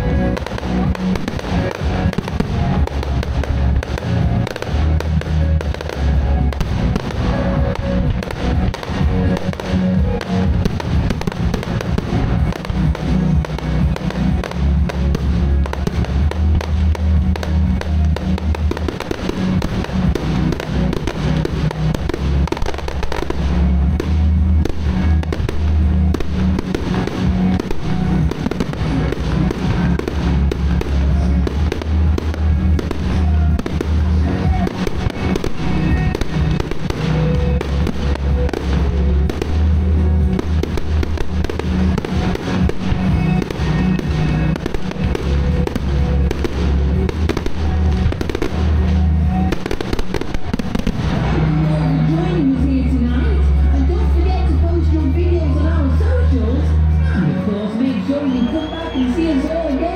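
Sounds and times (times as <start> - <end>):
fireworks bangs and crackles: 0.0 - 59.9
music over loudspeakers: 0.0 - 59.9.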